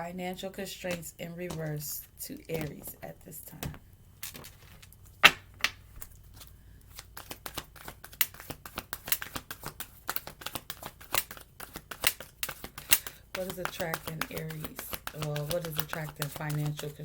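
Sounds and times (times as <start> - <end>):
cards being shuffled: 0.8 - 17.0.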